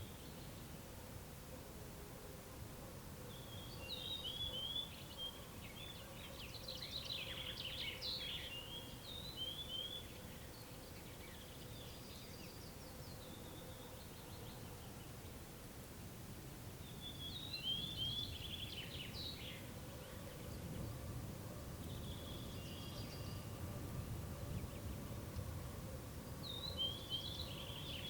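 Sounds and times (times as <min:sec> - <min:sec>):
low background hiss: 0:00.0 - 0:28.0
songbird chirping and trilling: 0:03.3 - 0:15.4, 0:16.8 - 0:28.0.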